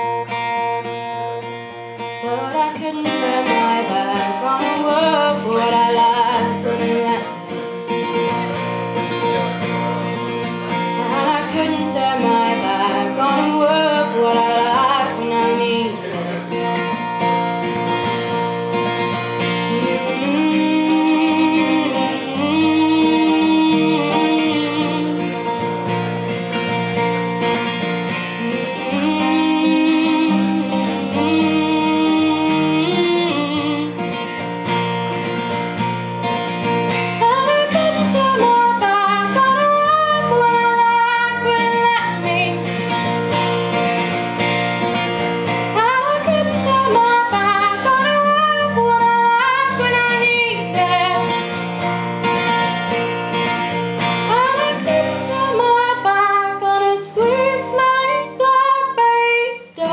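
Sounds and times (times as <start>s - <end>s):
strummed acoustic guitar: 0.0s - 59.9s
woman singing: 2.0s - 8.4s, 10.1s - 26.2s, 28.1s - 34.6s, 37.0s - 44.1s, 45.4s - 51.7s, 54.1s - 59.9s.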